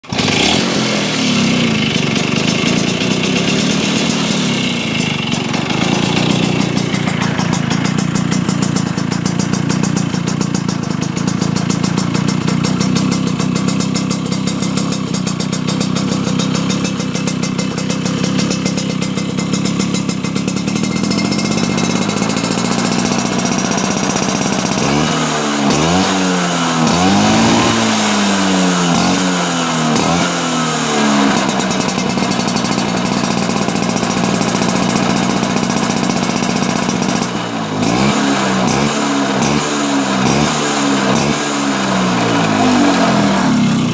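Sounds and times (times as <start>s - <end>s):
scooter engine idling and revving: 0.0s - 43.9s.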